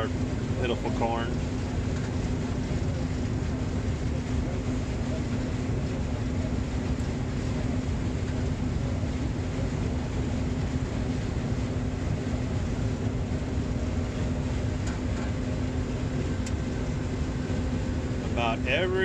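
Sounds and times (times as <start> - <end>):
combine harvester engine drone: 0.0 - 19.0.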